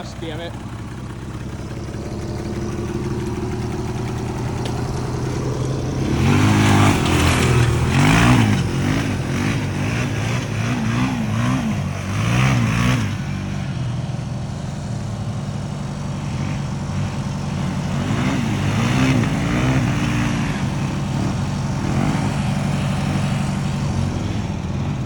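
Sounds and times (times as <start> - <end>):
lawnmower engine revving: 0.0 - 25.0.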